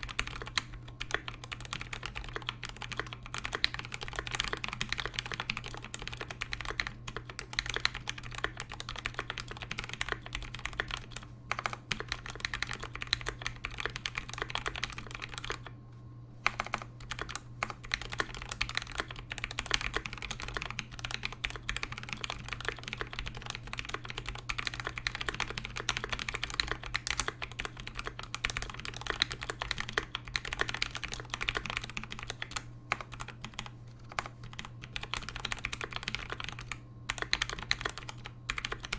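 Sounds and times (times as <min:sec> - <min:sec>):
mechanical keyboard typing: 0:00.0 - 0:15.7, 0:16.4 - 0:38.9.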